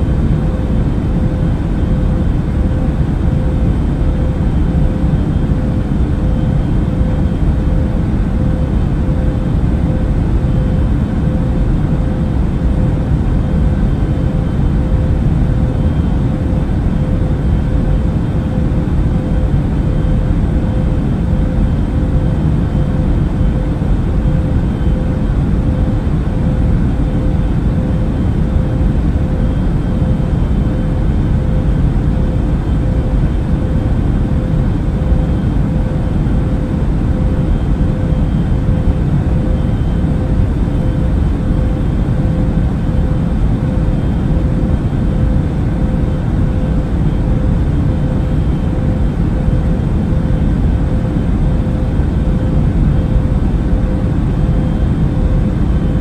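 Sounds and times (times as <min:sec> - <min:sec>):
airliner engine drone: 0:00.0 - 0:56.0
faint steady hum: 0:00.0 - 0:56.0.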